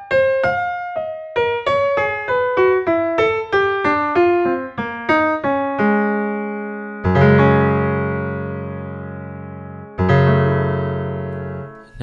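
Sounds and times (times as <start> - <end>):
electric piano notes and chords: 0.0 - 12.0.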